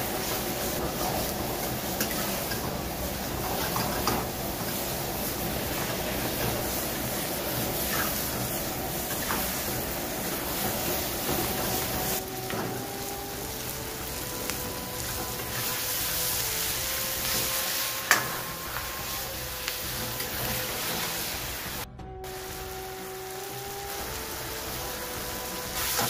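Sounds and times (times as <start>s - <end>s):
vegetables sizzling in oil: 0.0s - 26.0s.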